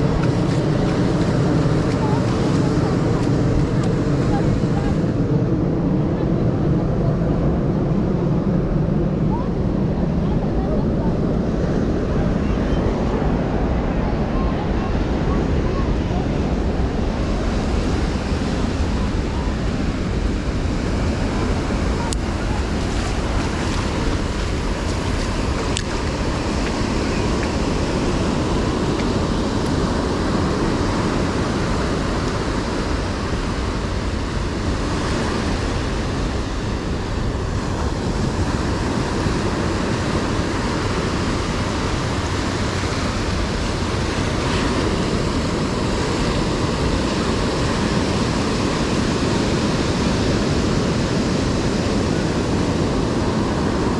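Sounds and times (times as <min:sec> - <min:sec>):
ocean surf washing onto beach: 0:00.0 - 0:53.9
wind rumbling on microphone: 0:00.0 - 0:53.9.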